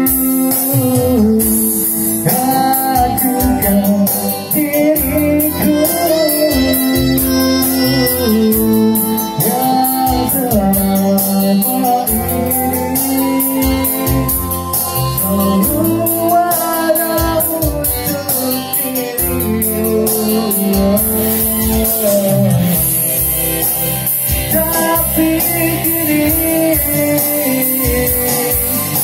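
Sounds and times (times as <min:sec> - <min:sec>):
electric guitar: 0:00.0 - 0:29.0
electronic keyboard: 0:00.0 - 0:29.0
man singing into a microphone: 0:00.0 - 0:29.0
steady drum beat: 0:00.0 - 0:29.0.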